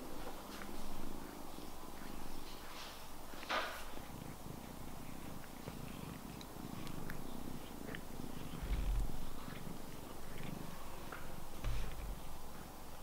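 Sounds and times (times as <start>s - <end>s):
cat purring: 0.7s - 13.0s.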